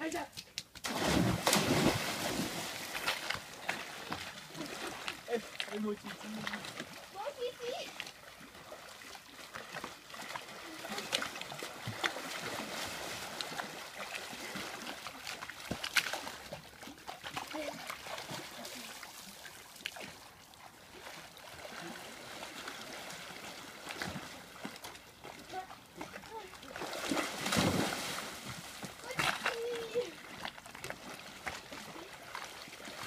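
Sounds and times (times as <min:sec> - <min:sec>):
pool water splashing: 0:00.8 - 0:33.0
water lapping: 0:00.8 - 0:33.0.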